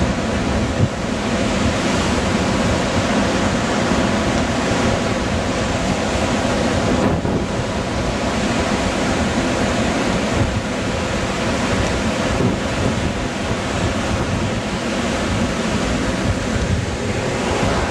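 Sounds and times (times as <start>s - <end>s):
surf breaking on beach: 0.0s - 17.9s
wind buffeting microphone: 0.0s - 17.9s.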